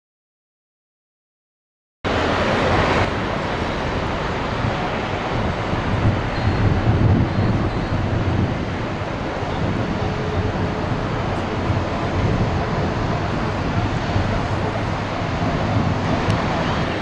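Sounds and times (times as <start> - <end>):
jet engines rumbling: 2.1 - 17.0
wind noise on microphone: 2.1 - 17.0.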